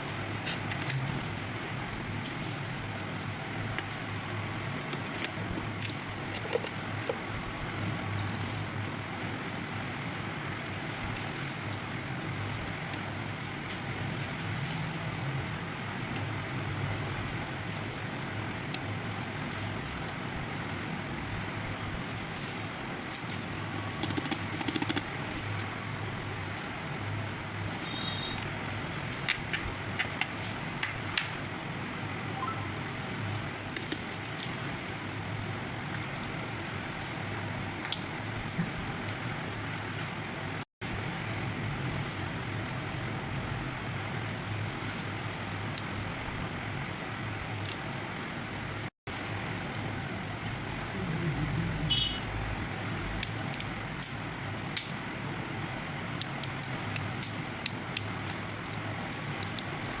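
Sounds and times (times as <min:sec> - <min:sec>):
background traffic noise: 0:00.0 - 1:00.0.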